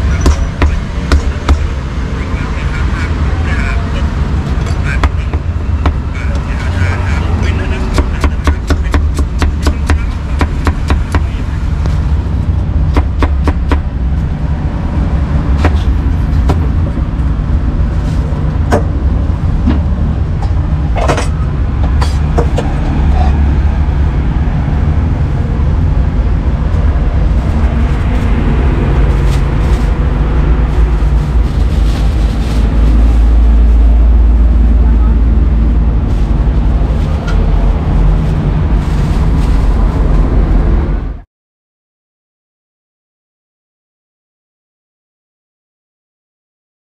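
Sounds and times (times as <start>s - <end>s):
street traffic rumble: 0.0s - 41.3s.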